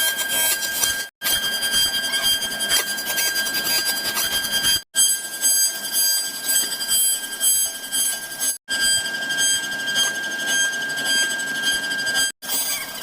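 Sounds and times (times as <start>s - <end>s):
cnc router spindle whining: 0.0s - 13.0s
grinding wood cutting noise: 0.0s - 13.0s.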